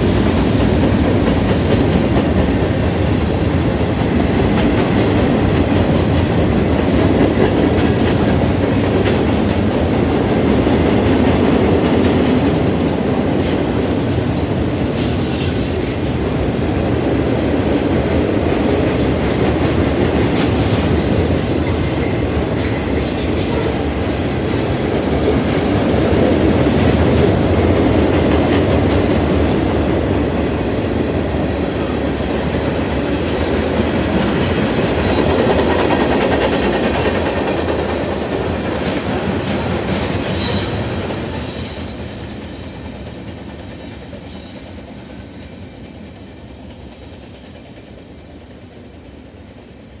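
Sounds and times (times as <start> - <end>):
train wheels rolling on rails: 0.0 - 50.0.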